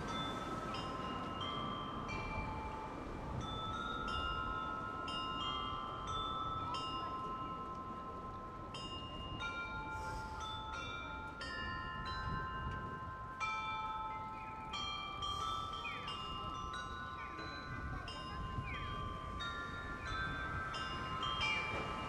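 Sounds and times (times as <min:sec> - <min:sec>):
bells playing slow melody: 0:00.0 - 0:22.0.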